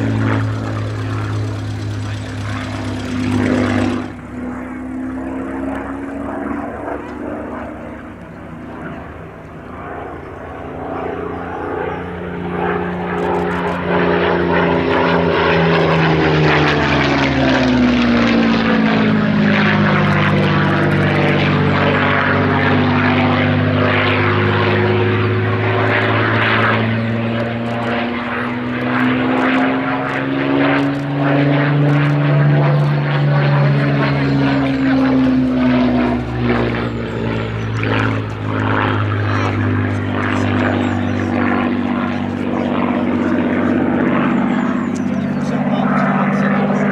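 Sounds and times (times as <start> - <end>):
propeller aircraft engine passing: 0.0 - 46.9.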